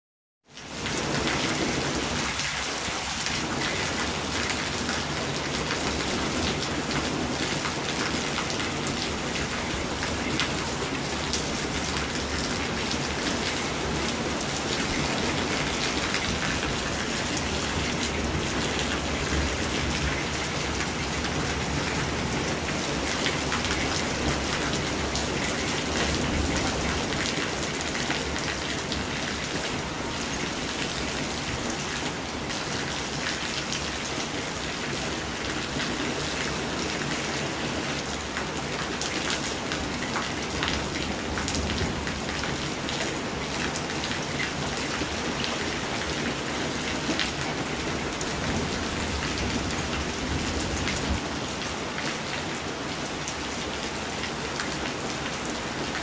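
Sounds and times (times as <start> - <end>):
rain on wet pavement: 0.5 - 56.0.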